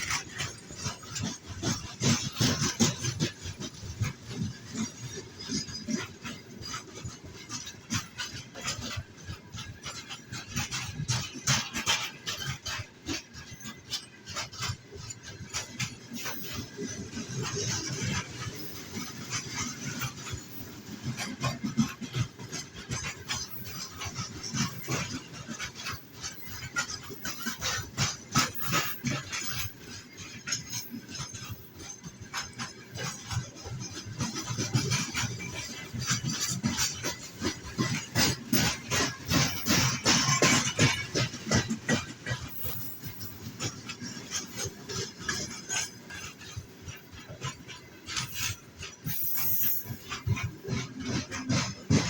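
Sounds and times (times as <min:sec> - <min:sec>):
train wheels knocking on rails: 0:00.0 - 0:52.0.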